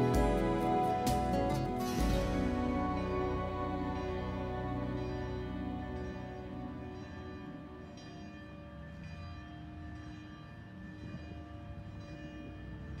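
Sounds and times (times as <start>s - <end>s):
soft music with bell tones: 0.0s - 13.0s.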